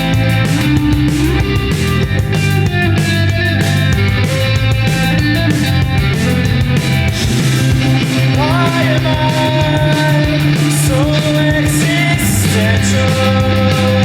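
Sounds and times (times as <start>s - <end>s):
rock song with electric guitars: 0.0s - 14.0s.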